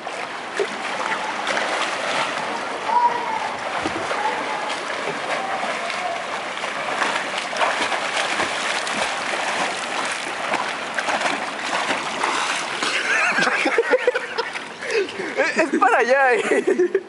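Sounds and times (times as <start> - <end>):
water splashing from kicking: 0.0 - 15.0.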